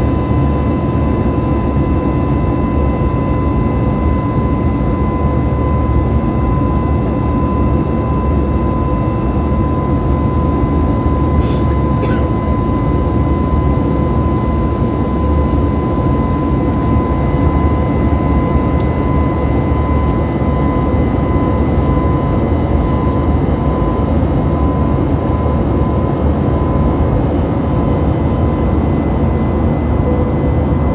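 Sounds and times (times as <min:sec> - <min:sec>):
jet engine and airflow rush: 0:00.0 - 0:30.9.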